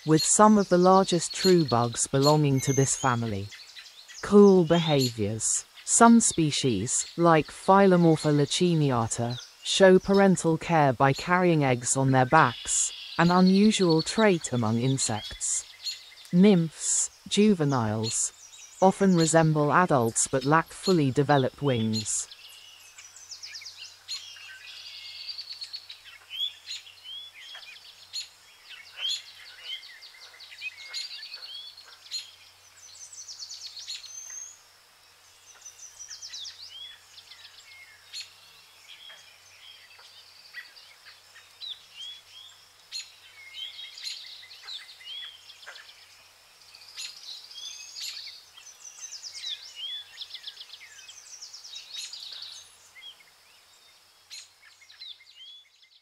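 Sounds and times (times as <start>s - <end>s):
faint outdoor background noise: 0.0s - 56.0s
small birds chirping: 0.0s - 56.0s.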